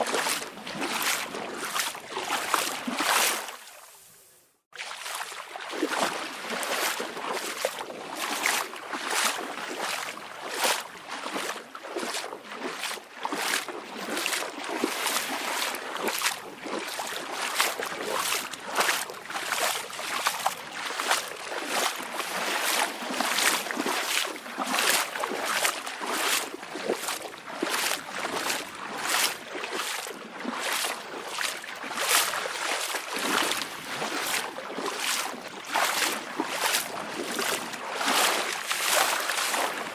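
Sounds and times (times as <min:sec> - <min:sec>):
small waves splashing: 0:00.0 - 0:39.9.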